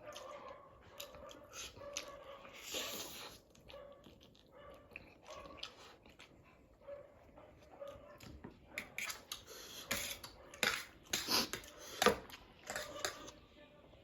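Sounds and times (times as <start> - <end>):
slurping and chewing noodles: 0.0 - 6.8, 8.2 - 13.4.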